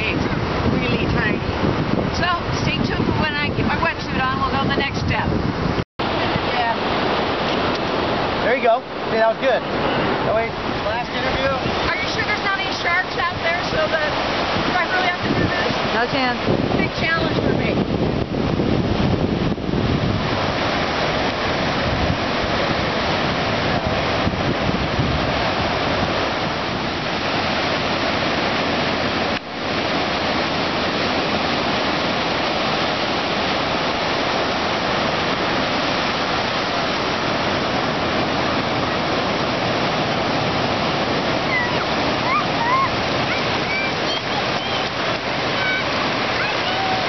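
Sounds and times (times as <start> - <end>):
ocean surf breaking on beach: 0.0 - 47.0.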